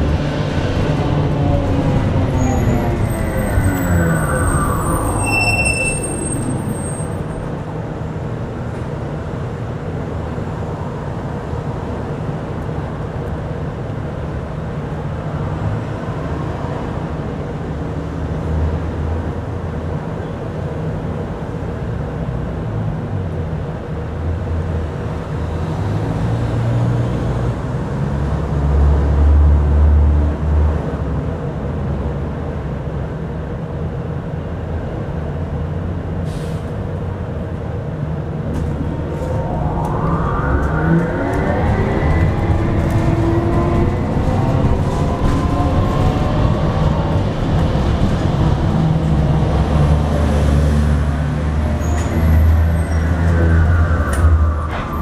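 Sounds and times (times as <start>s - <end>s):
low road rumble: 0.0s - 55.0s.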